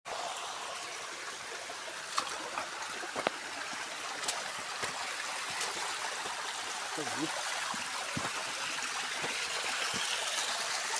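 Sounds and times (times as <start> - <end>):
stream flowing and trickling: 0.1 - 10.9.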